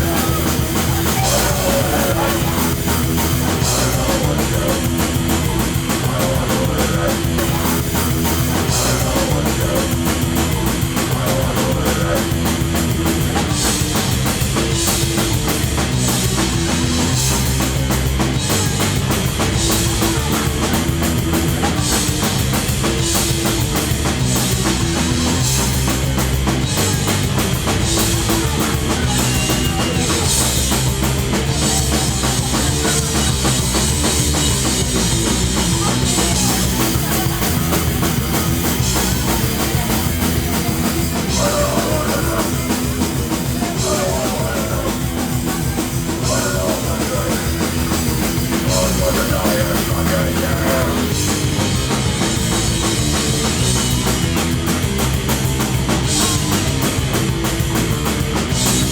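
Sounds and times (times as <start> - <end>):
bass guitar: 0.0 - 58.9
distorted guitars: 0.0 - 58.9
driving drum kit: 0.0 - 58.9.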